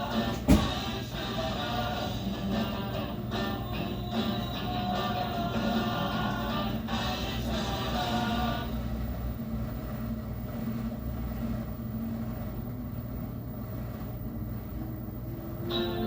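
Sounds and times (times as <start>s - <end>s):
washing machine rumbling: 0.0s - 16.0s.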